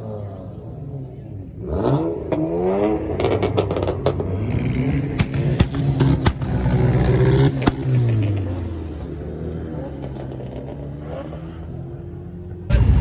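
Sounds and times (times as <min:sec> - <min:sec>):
car engine revving: 0:01.6 - 0:13.0.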